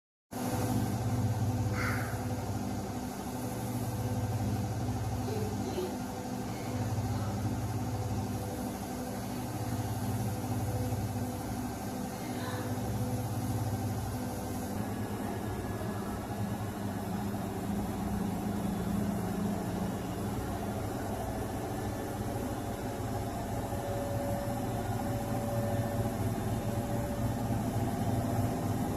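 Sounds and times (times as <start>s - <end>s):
washing machine motor hum: 0.4s - 28.9s.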